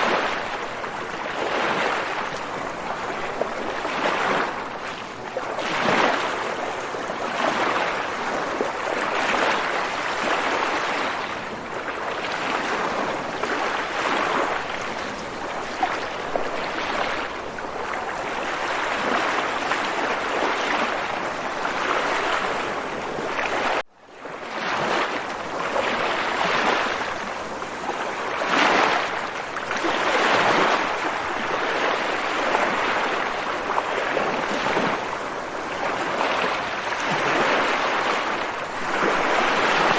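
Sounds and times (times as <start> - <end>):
water waves washing in: 0.0 - 39.9.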